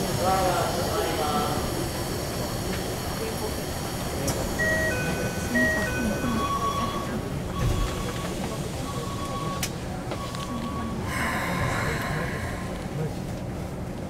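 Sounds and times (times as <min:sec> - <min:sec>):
train car background noise: 0:00.0 - 0:14.0.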